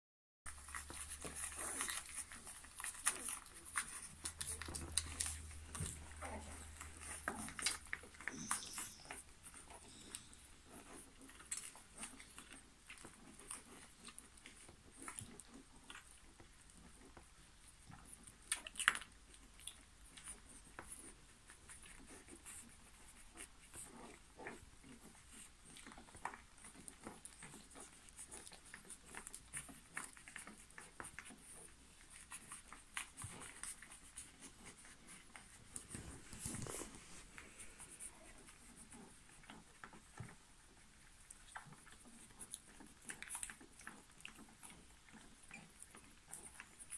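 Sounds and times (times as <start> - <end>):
puppies suckling wet smacking: 0.5 - 46.9.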